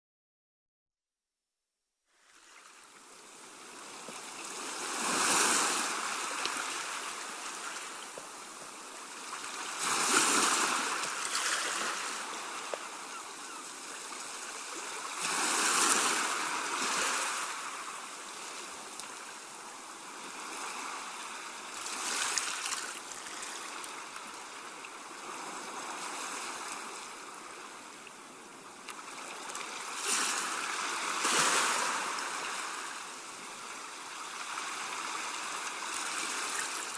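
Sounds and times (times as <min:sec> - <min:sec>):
sea waves washing onto shore: 0:02.3 - 0:36.9.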